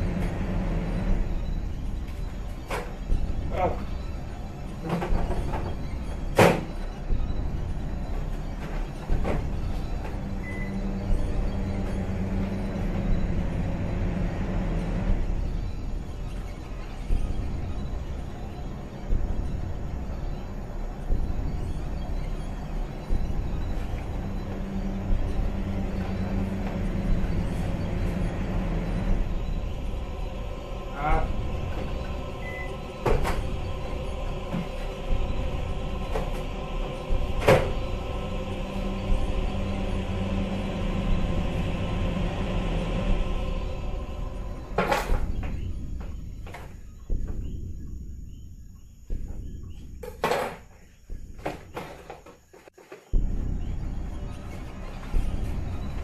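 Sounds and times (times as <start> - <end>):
microwave oven humming: 0.0 - 45.9
steady low drone: 0.0 - 50.2, 53.1 - 56.0.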